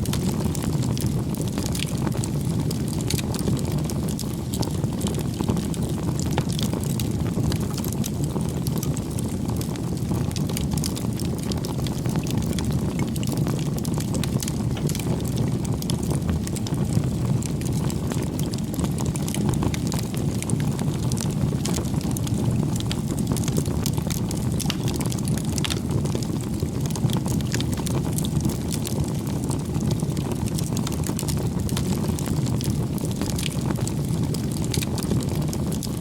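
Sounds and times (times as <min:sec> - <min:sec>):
bonfire crackling and popping: 0:00.0 - 0:36.0.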